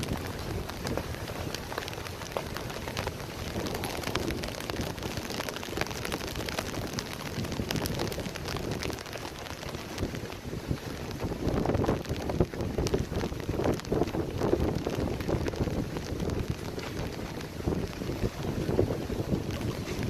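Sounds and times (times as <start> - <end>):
heavy rain pouring: 0.0 - 20.0
raindrops hitting close: 0.0 - 20.0.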